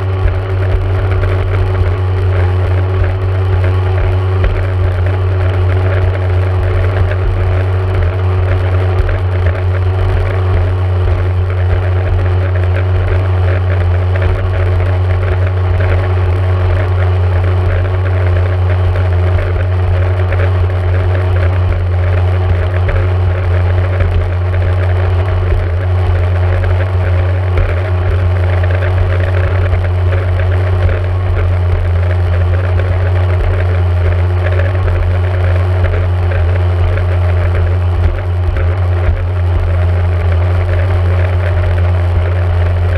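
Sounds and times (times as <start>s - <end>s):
two-stroke engine running steadily: 0.0s - 42.9s.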